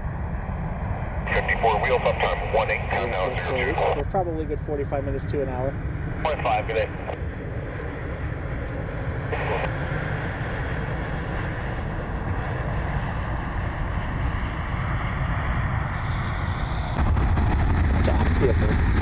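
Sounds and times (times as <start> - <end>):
distant jet engines rumbling: 0.0 - 19.0.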